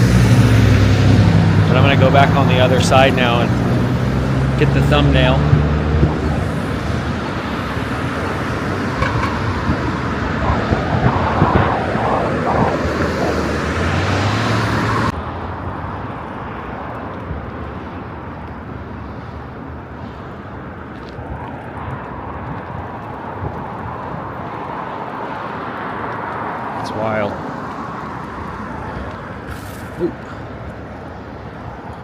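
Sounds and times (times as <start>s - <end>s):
passing cars: 0.0s - 32.0s.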